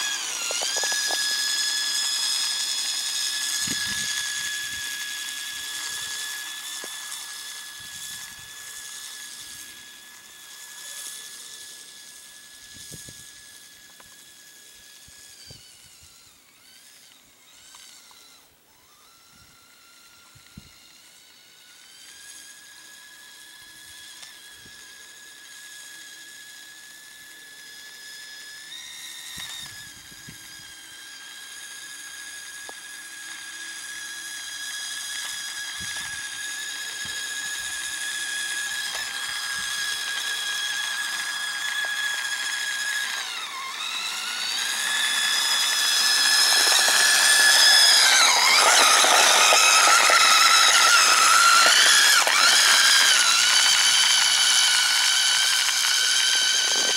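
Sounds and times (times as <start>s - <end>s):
toy snowmobile motor whine: 0.0s - 56.9s.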